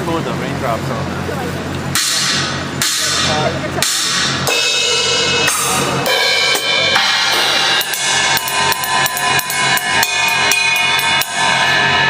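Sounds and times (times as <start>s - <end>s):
drum and cymbal hits: 1.6s - 12.0s
cymbal crashes ringing: 1.9s - 12.0s.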